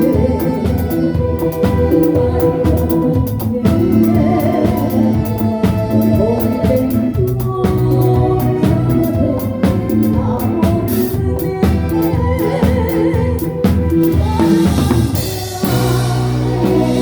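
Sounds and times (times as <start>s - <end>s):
live band playing: 0.0s - 17.0s
steady cymbal beat: 0.0s - 17.0s.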